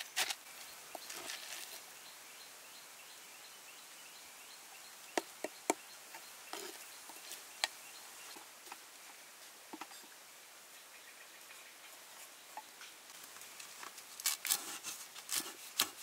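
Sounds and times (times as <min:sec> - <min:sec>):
insects chirping: 0:00.0 - 0:14.5.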